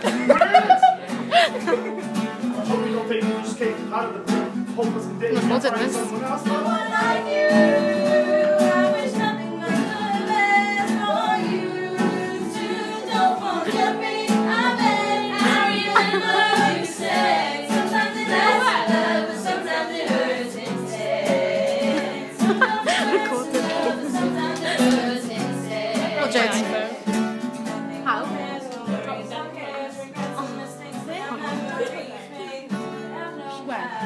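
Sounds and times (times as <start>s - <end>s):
acoustic guitar strumming: 0.0s - 34.0s
young voices singing together: 6.5s - 34.0s.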